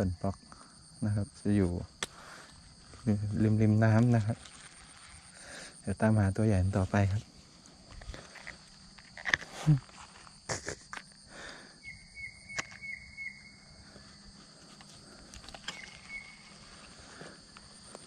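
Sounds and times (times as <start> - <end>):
insects chirring: 0.0 - 18.0
repeated insect chirps: 0.0 - 18.0.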